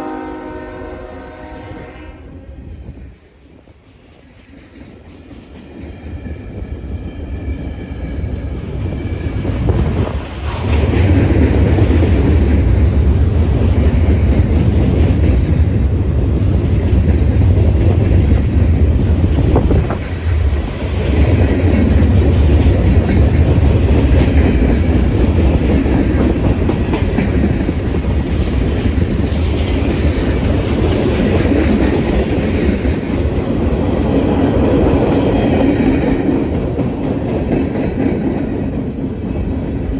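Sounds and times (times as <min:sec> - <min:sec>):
train wheels clattering on rails: 0:02.6 - 0:39.9.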